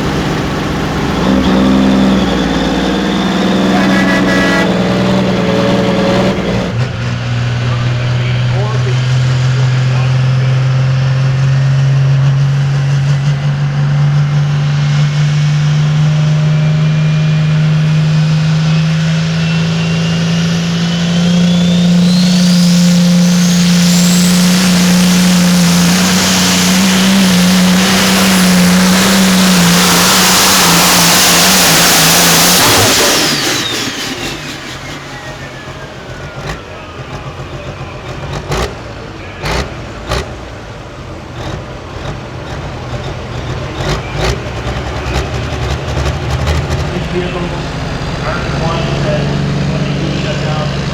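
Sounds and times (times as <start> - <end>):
diesel engine under load: 0.0 - 50.9
turbo whine: 0.0 - 50.9.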